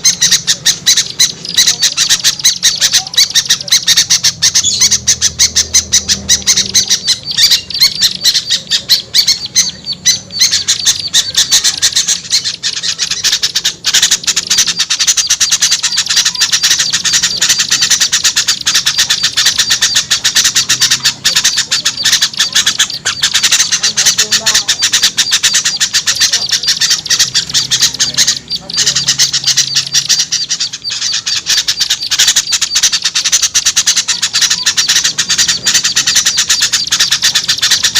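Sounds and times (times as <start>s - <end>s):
small birds chattering calls: 0.0s - 37.9s.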